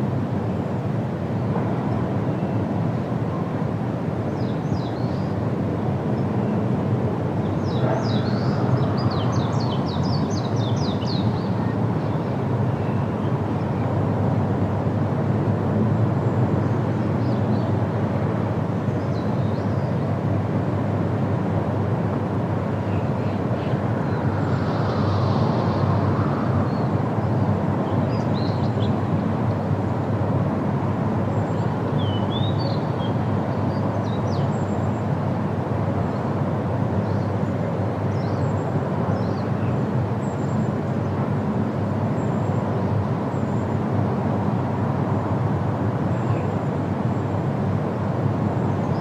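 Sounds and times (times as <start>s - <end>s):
wind rushing through trees: 0.0s - 49.0s.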